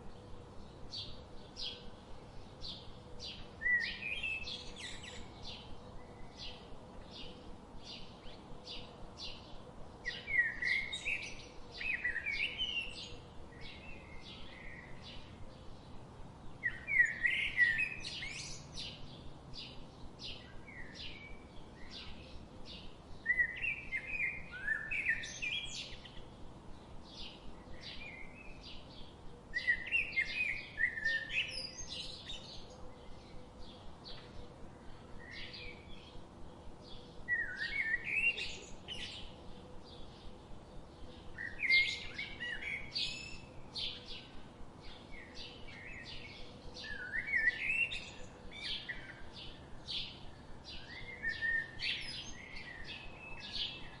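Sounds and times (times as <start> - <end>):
bird warbling song: 0.0 - 54.0
songbirds chirping: 0.0 - 54.0.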